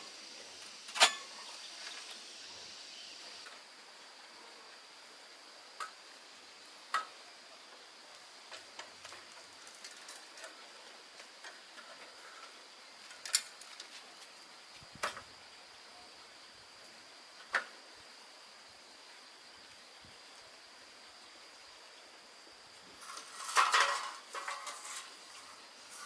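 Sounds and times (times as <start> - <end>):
faint high-pitched whine: 0.0 - 26.0.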